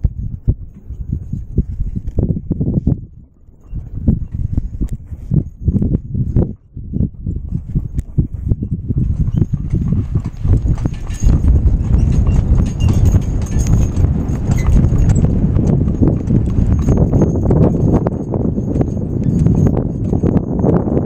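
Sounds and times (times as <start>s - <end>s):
hooves clip-clopping on pavement: 0.0s - 21.0s
low rumble: 0.0s - 21.0s.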